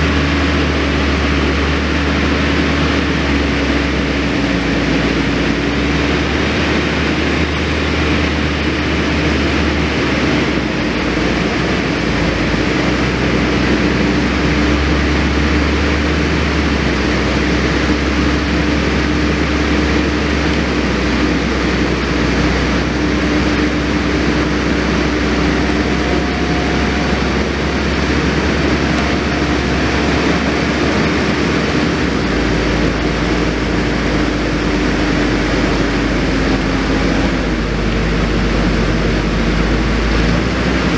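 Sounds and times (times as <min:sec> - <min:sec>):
tracked loader engine running: 0:00.0 - 0:40.9.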